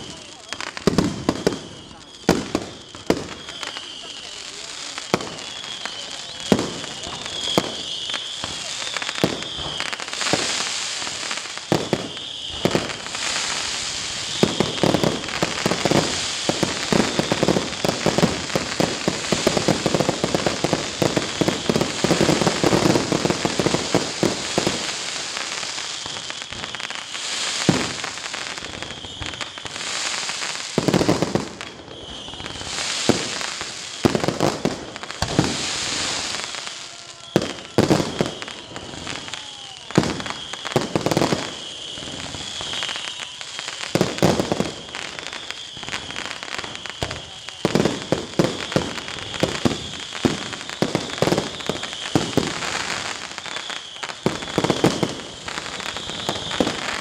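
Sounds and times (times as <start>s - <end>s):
firework bangs: 0.0s - 57.0s
firework crackling: 0.0s - 57.0s.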